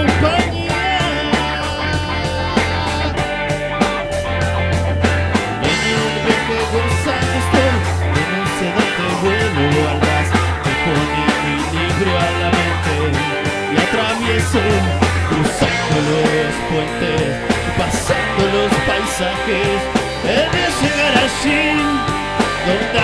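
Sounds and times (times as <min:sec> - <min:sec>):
bass guitar low notes: 0:00.0 - 0:23.0
electric guitar: 0:00.0 - 0:23.0
steady drum beat: 0:00.0 - 0:23.0.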